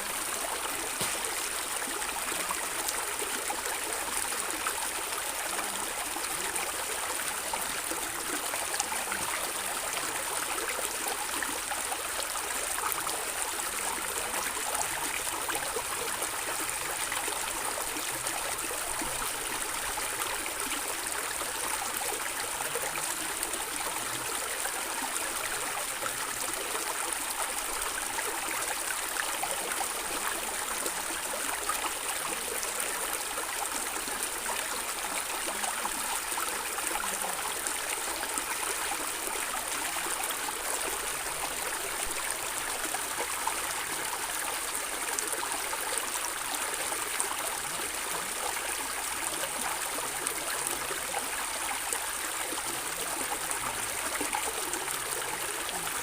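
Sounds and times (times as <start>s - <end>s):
stream gurgling and trickling: 0.0s - 56.0s.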